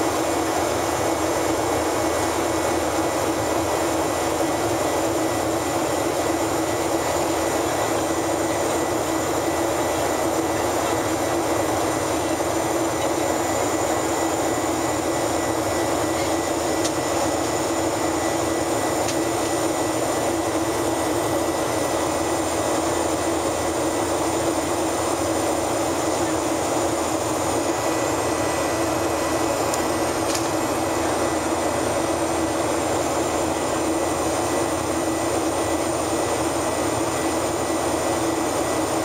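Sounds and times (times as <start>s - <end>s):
jet engines droning: 0.0s - 39.0s
rushing air in aircraft cabin: 0.0s - 39.0s.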